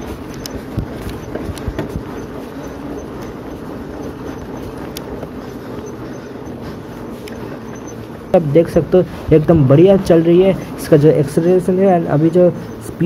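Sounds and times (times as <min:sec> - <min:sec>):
bike tyres rumbling on road: 0:00.0 - 0:13.0.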